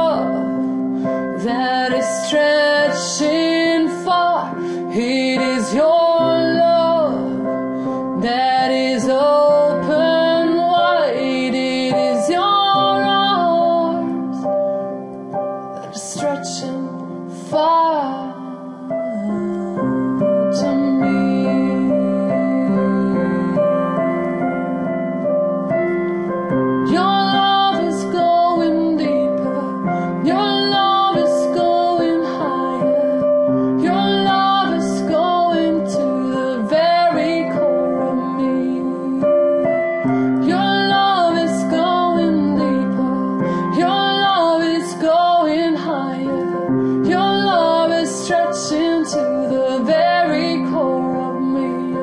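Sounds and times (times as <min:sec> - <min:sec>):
sustained piano chords: 0:00.0 - 0:52.0
woman singing wordless melody: 0:00.0 - 0:52.0.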